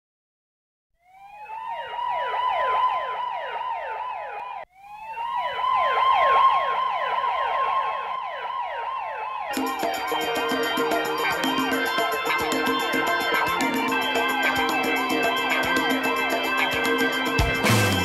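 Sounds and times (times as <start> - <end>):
electronic siren wail with chirps: 1.0 - 18.0.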